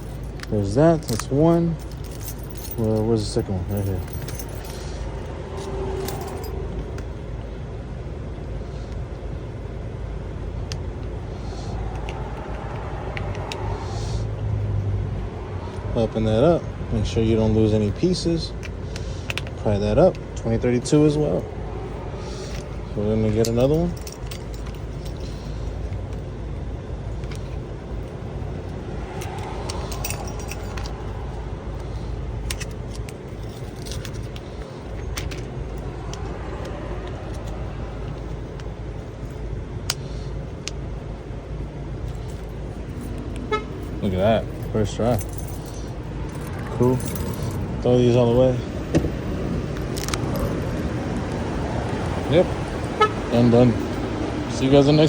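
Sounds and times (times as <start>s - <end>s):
steady low rumble: 0.0s - 55.0s
vehicle engine running: 0.0s - 55.0s.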